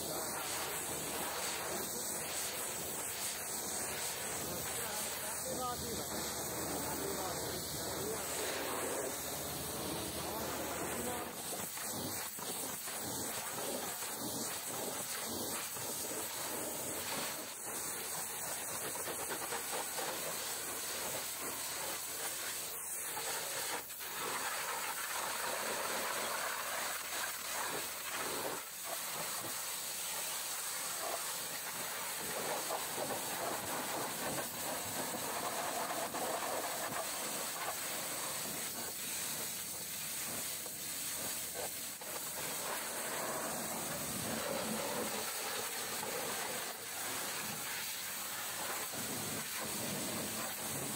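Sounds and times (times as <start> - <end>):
pressure washer spraying: 0.0 - 50.9.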